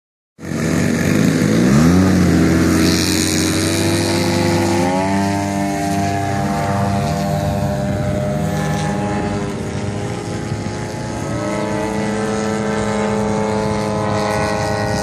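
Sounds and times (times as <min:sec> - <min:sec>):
model plane engine revving: 0:00.4 - 0:15.0.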